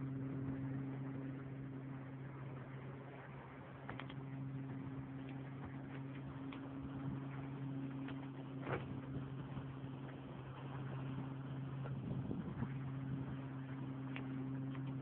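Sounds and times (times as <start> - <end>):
boat engine humming: 0.0 - 15.0
water washing along hull: 0.0 - 15.0.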